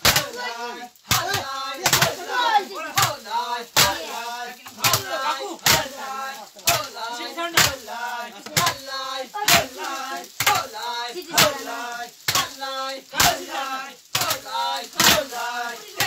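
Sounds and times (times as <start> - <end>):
men chanting: 0.0 - 16.0
sticks beating maize cobs: 0.0 - 16.0.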